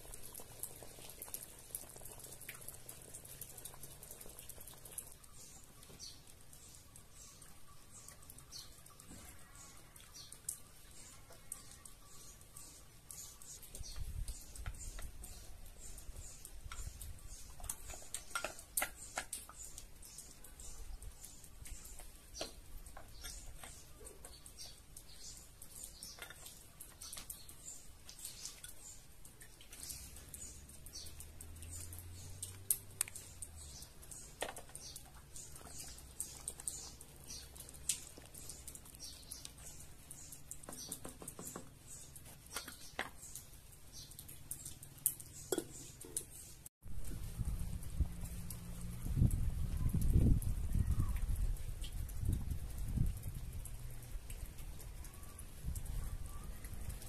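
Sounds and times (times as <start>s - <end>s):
small birds chirping: 0.0s - 46.7s, 47.3s - 57.0s.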